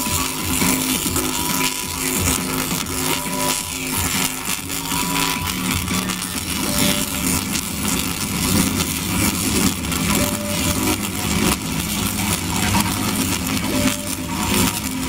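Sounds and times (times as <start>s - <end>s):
electric discharge crackling: 0.0s - 15.0s
steady low buzz: 0.0s - 15.0s.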